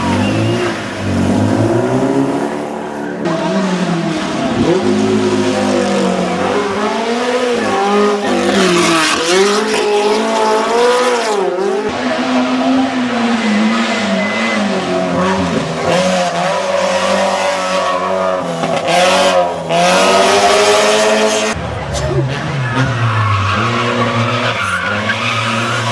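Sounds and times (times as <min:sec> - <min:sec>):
race car engine revving hard: 0:00.0 - 0:25.9.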